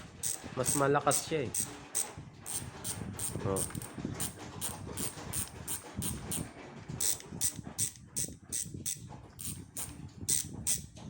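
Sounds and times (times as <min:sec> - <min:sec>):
bicycle hub ratcheting clicks: 0:00.2 - 0:06.4, 0:07.0 - 0:10.9.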